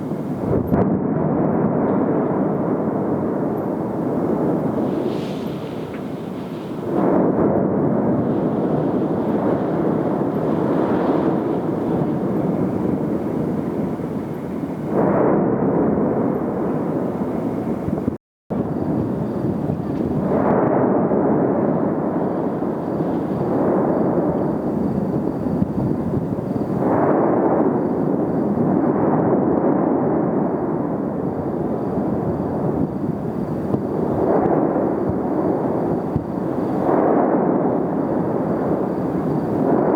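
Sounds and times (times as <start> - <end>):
volcano rumbling: 0.0 - 39.9.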